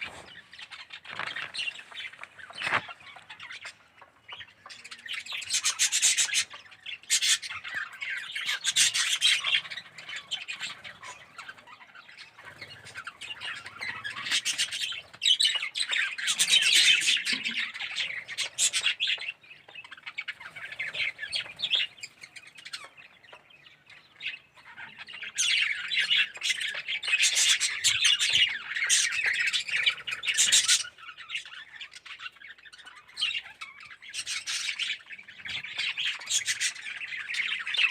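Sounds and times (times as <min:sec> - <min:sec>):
budgerigars chattering and squawking: 0:00.0 - 0:37.9.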